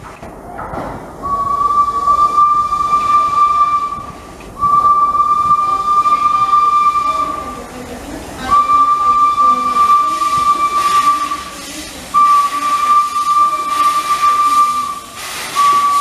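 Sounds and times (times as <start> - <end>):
steam whistle blasts: 1.2 - 7.7, 8.4 - 16.0
steam hissing: 1.2 - 16.0.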